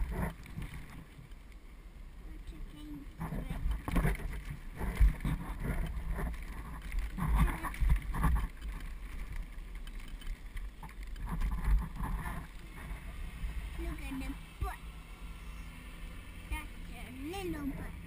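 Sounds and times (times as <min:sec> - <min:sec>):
trailer wheels rolling on asphalt: 0:00.0 - 0:18.0.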